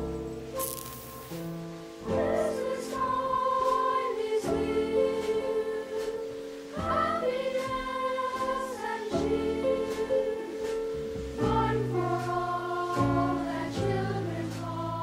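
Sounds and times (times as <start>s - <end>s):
choir singing over music: 2.0s - 15.0s.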